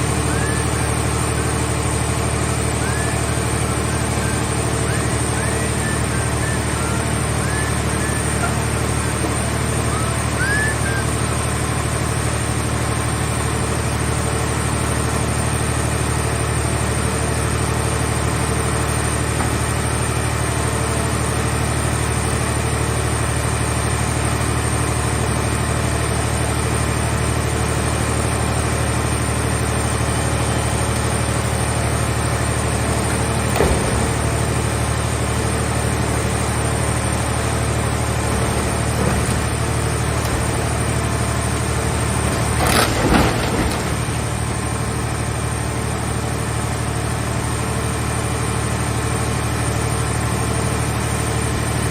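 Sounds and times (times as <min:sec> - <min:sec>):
baler engine running: 0:00.0 - 0:51.9.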